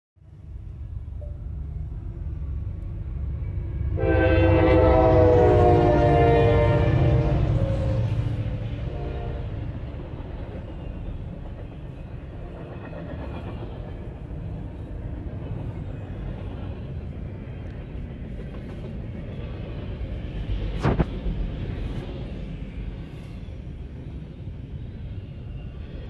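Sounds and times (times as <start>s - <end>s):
train wheels rumbling on rail: 0.3s - 26.0s.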